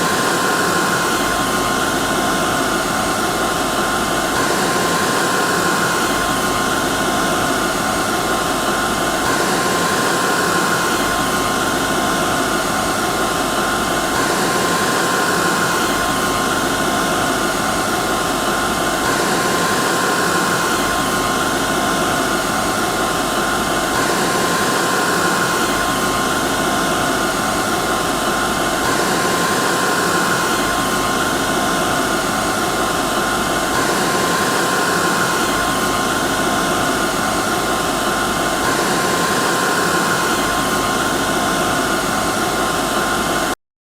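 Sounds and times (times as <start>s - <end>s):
hair dryer running: 0.0s - 43.6s.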